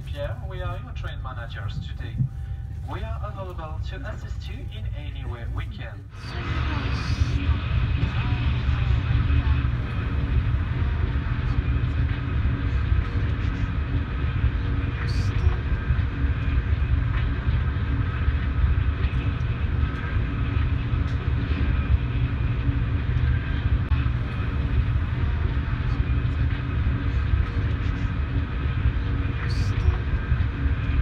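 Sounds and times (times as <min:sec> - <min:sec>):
faint constant tones: 0:00.0 - 0:31.0
train cabin low rumble: 0:00.0 - 0:31.0.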